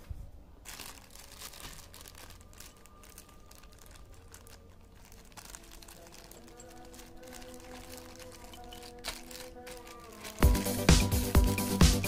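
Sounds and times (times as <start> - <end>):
plastic bag crinkling: 0.5 - 11.7.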